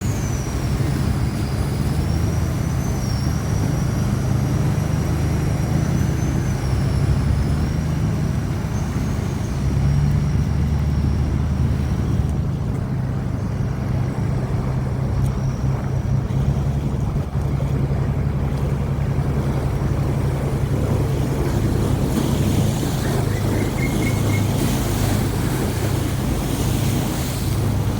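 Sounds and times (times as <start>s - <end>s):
diesel boat engine rumbling: 0.0s - 27.9s.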